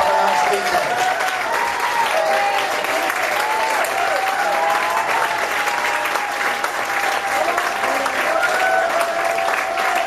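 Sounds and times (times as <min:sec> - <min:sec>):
audience clapping: 0:00.0 - 0:10.0
crowd cheering: 0:00.0 - 0:10.0.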